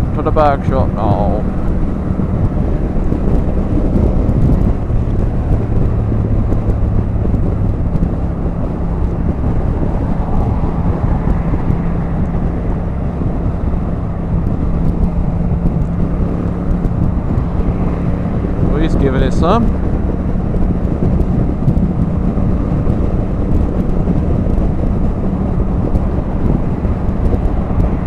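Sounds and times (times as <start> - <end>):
motorcycle engine drone: 0.0 - 28.0
wind rush on microphone: 0.0 - 28.0.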